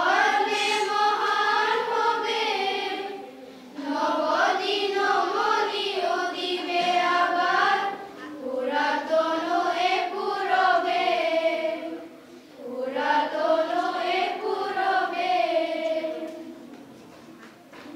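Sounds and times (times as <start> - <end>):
children's choir singing: 0.0 - 17.9.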